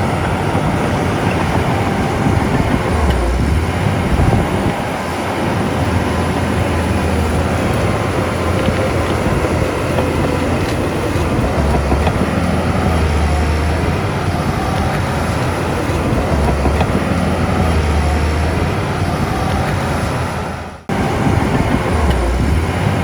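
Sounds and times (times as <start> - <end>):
heavy diesel machinery rumbling: 0.0 - 23.0.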